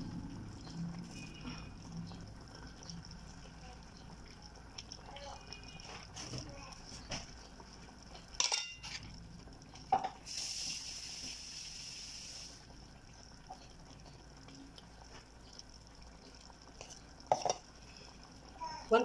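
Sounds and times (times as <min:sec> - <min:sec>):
stew bubbling in a pan: 0:00.0 - 0:19.0.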